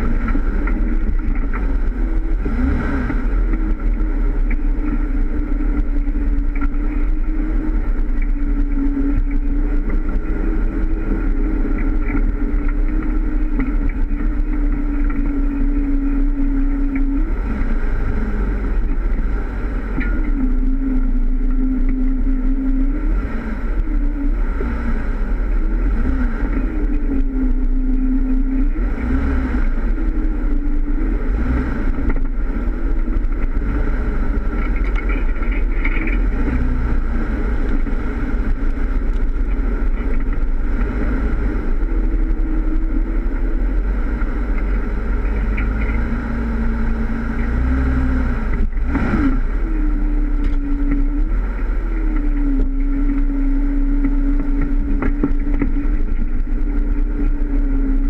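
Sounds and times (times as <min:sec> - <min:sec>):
off-road vehicle engine rumbling: 0:00.0 - 0:58.0.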